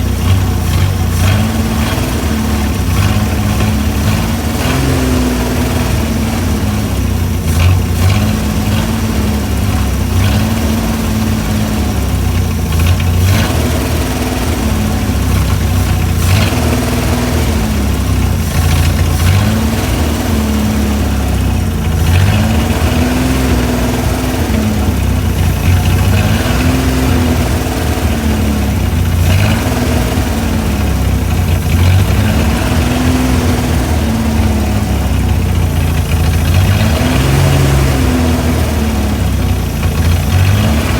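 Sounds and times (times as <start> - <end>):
car engine idling unevenly: 0.0 - 40.9.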